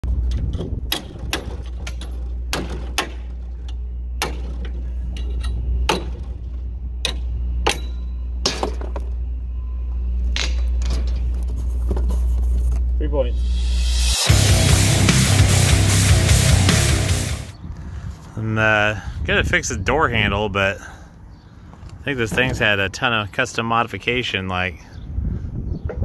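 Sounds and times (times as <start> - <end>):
steady low hum: 0.0 - 25.7.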